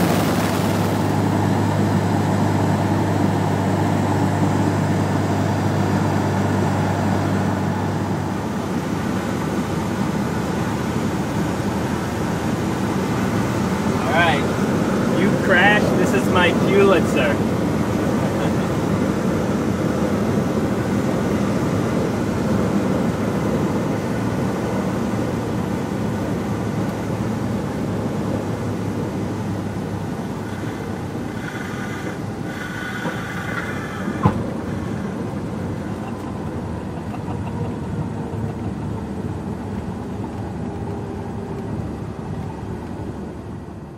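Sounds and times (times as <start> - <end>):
airplane engine and propeller: 0.0 - 43.9.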